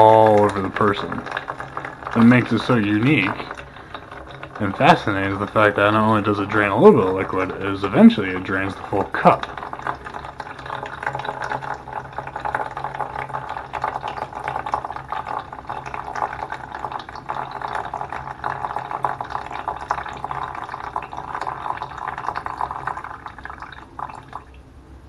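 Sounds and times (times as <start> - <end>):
water dripping: 0.0 - 24.7
water trickling into bucket: 0.0 - 24.7.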